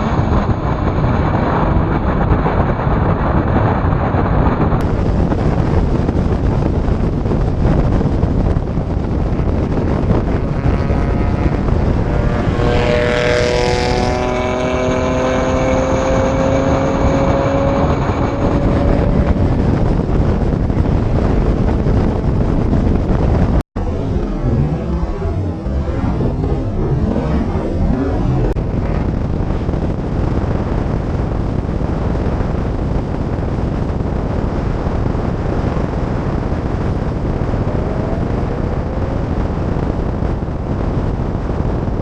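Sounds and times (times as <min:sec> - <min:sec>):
car engine running hard: 0:00.0 - 0:42.0
heavy wind noise: 0:00.0 - 0:42.0.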